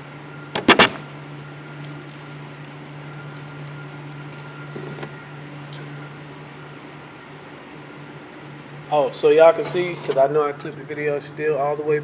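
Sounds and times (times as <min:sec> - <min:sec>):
ventilation hum: 0:00.0 - 0:12.0.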